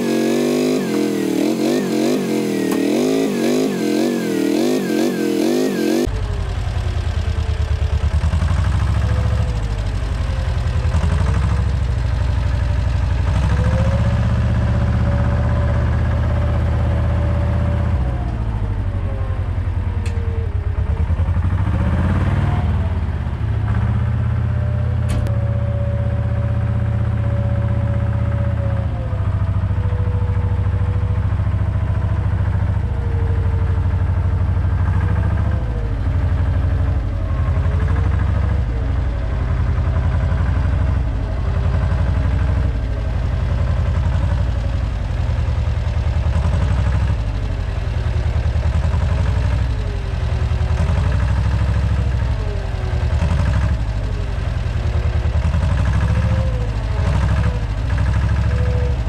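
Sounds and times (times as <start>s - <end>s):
wheel loader diesel engine: 0.0s - 59.0s.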